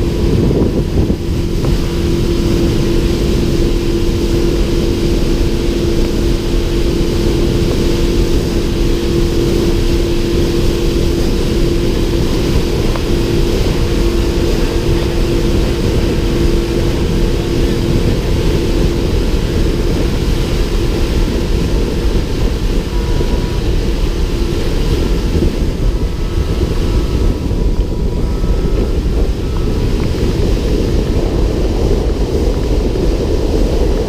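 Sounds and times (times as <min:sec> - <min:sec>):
speedboat engine droning: 0:00.0 - 0:34.0.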